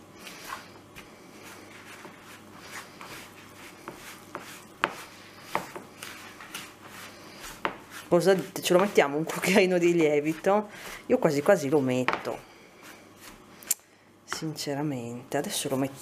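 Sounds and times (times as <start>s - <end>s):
spoon stirring dough in bowl: 0.0s - 13.6s.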